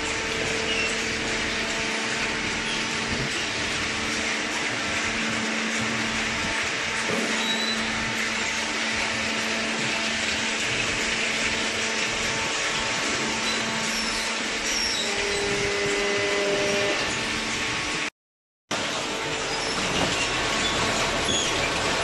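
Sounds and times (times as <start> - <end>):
hydraulic baler motor hum: 0.0 - 18.1, 18.8 - 22.0.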